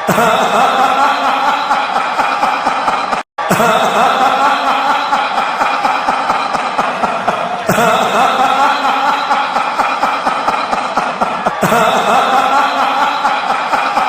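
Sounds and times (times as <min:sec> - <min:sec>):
laughing sound effect: 0:00.0 - 0:14.0.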